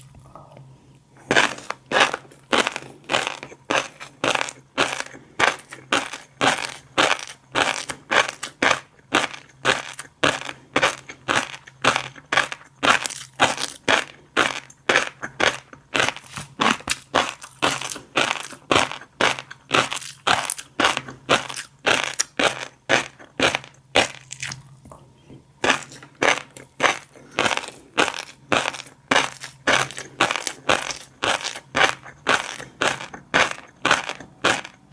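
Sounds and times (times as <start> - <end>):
fish roe being chewed: 0.0 - 34.9.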